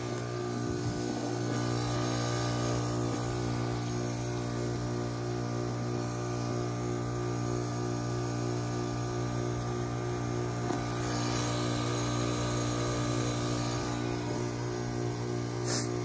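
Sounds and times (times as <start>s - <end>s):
heat pump electrical hum: 0.0s - 16.0s
heat pump hiss: 0.0s - 16.0s.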